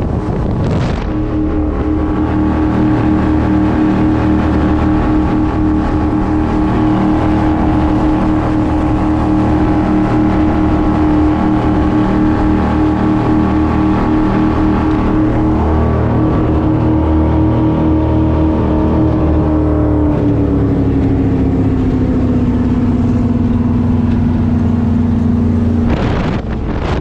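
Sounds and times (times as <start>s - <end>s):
rushing wind and water: 0.0s - 27.0s
speedboat engine drone: 0.0s - 27.0s.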